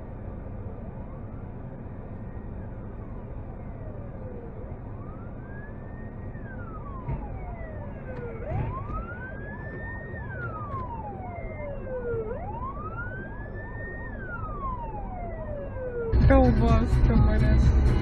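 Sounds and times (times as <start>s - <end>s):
fast pulsing siren tone: 0.0s - 18.0s
fire engine siren wailing: 0.0s - 18.0s
low traffic rumble: 0.0s - 18.0s.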